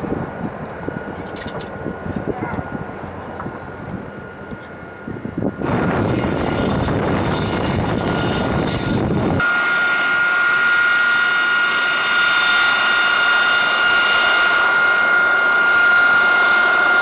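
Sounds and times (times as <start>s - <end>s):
jet engine high-pitched whine: 0.0s - 17.0s.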